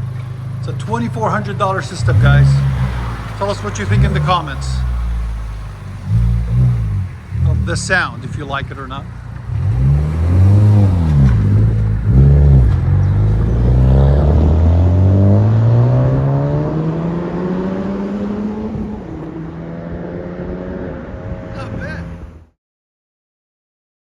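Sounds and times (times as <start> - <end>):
car engine revving: 0.0 - 22.5.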